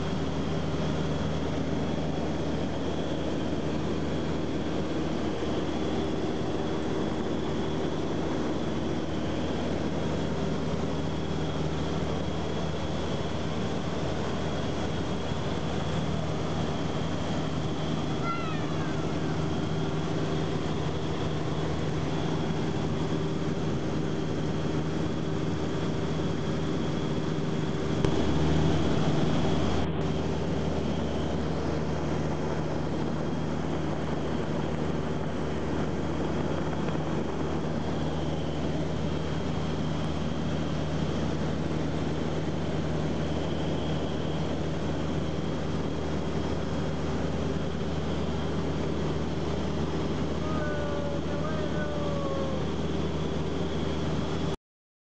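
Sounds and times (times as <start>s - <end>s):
propeller airplane engine drone: 0.0s - 54.6s.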